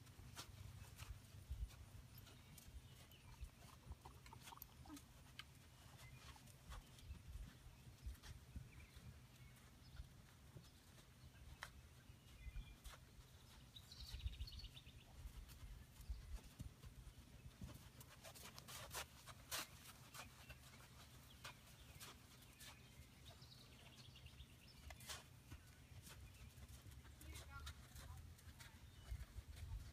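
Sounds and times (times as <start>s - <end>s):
horse hooves on sand: 0.0s - 29.9s.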